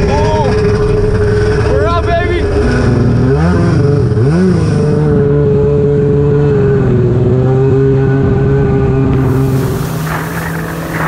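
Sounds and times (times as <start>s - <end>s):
jet ski engine revving: 0.1s - 11.0s.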